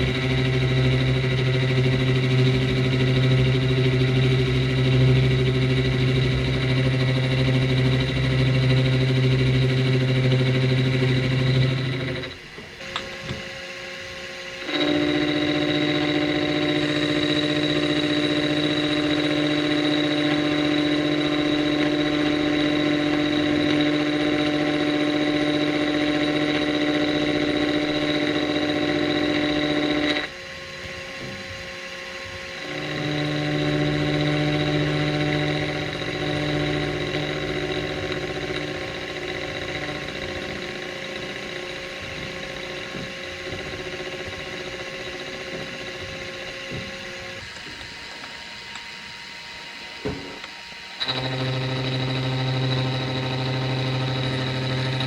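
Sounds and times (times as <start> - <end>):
machine tool motor humming: 0.0 - 55.0.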